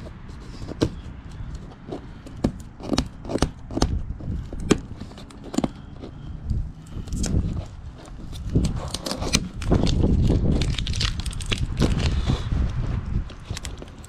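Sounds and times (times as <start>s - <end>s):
gasket clicks and crinkles: 0.5s - 12.3s, 13.3s - 14.0s.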